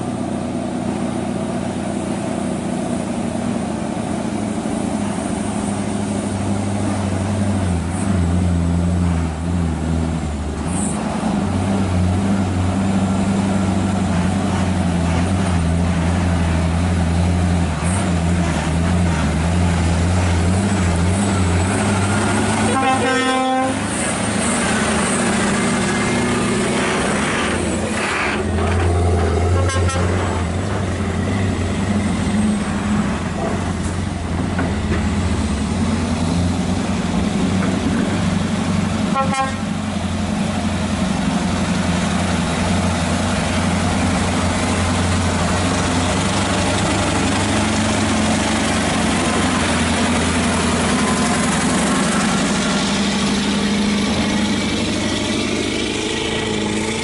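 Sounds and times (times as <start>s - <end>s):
truck diesel engine humming: 0.0s - 57.0s.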